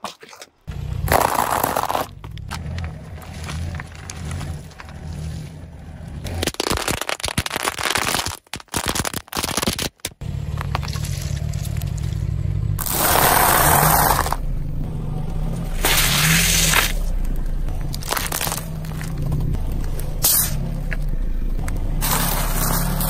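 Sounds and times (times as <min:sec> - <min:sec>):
tyre crushing small objects: 0:00.0 - 0:05.4, 0:06.1 - 0:14.4, 0:15.7 - 0:23.0.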